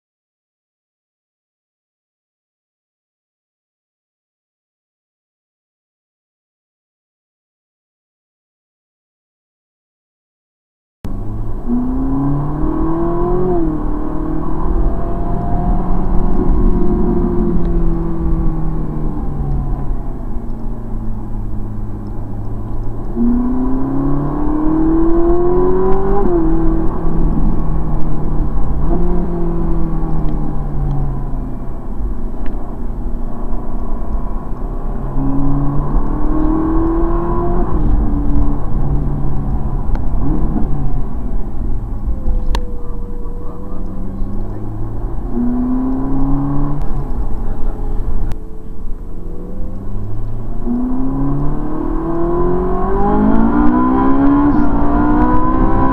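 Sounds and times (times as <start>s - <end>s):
low road rumble: 11.0s - 55.9s
car engine revving through gears: 11.1s - 55.9s.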